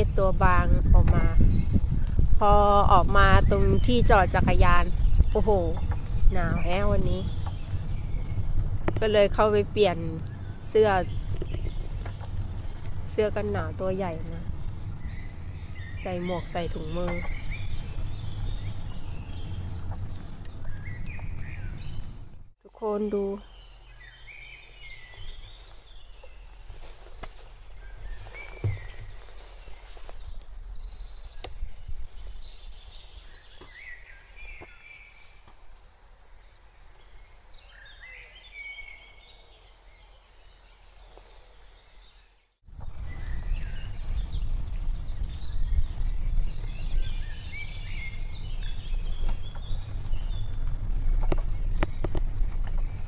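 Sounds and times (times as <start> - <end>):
wind rumble on microphone: 0.0 - 22.5, 23.5 - 38.2, 42.7 - 53.0
songbirds chirping and singing: 0.0 - 53.0.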